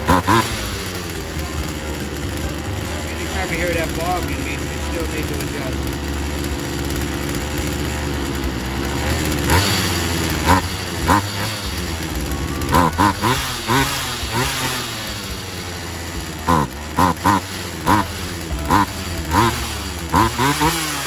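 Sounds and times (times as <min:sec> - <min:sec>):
chainsaw engine revving: 0:00.0 - 0:21.0.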